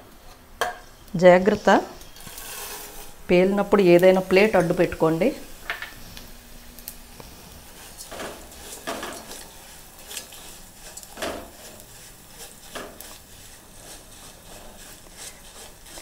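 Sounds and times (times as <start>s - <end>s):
faint sizzle: 0.0s - 16.0s
spatula scraping a pan: 1.0s - 6.2s, 6.8s - 16.0s.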